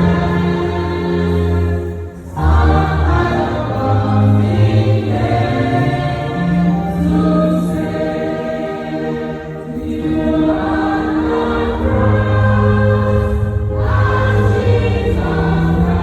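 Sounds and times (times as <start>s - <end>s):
choir singing gospel: 0.0s - 16.0s.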